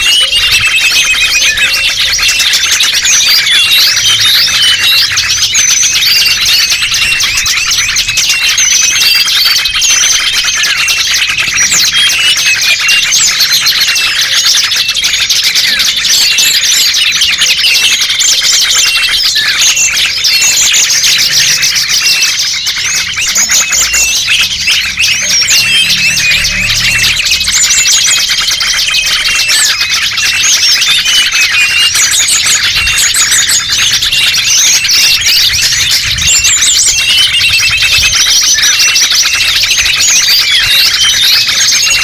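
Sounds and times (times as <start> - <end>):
songbirds chirping and calling: 0.0 - 42.0.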